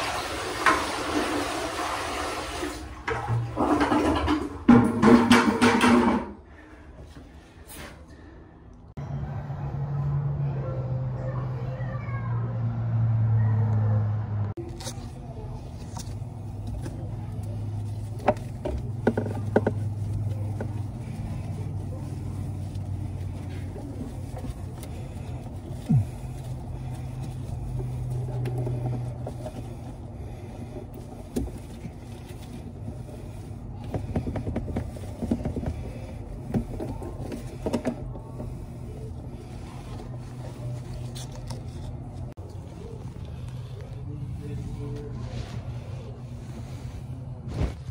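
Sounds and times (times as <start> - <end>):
low motor hum: 9.0 - 47.9.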